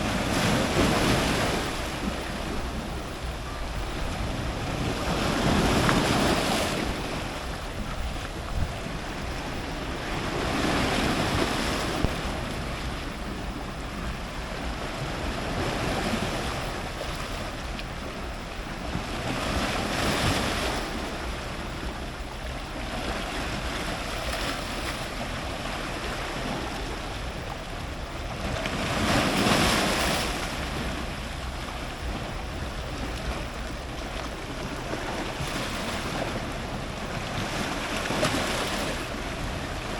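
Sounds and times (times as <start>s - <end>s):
ocean surf breaking: 0.0s - 39.9s
wind rumble on microphone: 0.0s - 39.9s.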